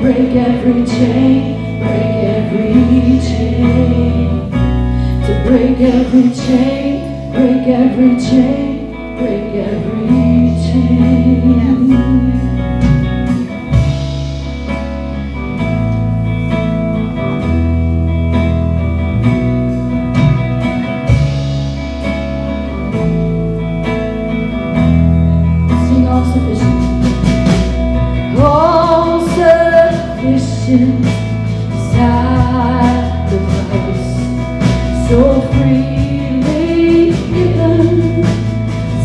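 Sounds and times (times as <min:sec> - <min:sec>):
bass holding chords: 0:00.0 - 0:39.0
electric guitar: 0:00.0 - 0:39.0.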